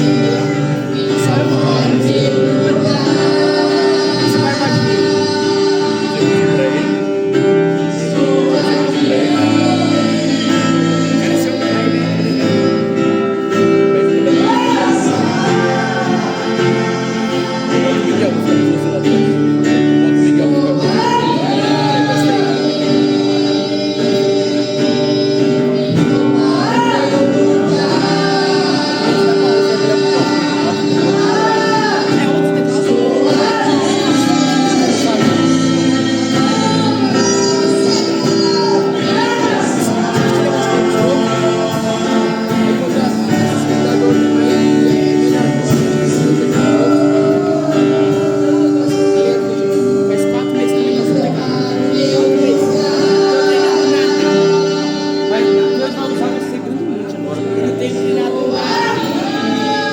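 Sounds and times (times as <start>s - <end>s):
held instrumental chords: 0.0s - 59.9s
voices singing slow melody: 0.0s - 59.9s.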